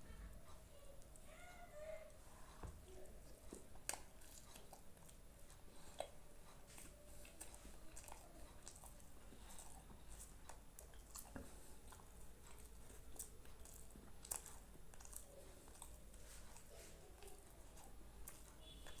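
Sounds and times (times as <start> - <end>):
chewing food: 2.1 - 19.0.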